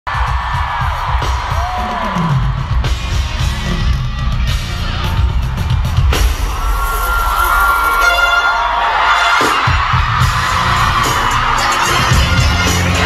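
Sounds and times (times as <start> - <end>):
live pop music over loudspeakers: 0.1 - 13.0.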